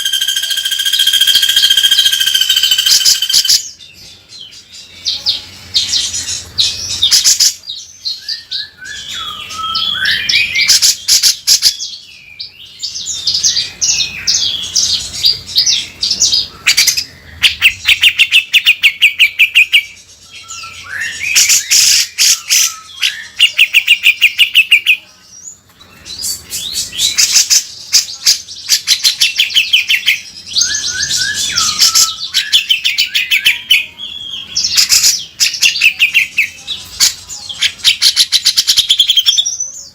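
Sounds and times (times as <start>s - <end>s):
bird singing harsh chattering trills: 0.0s - 39.9s.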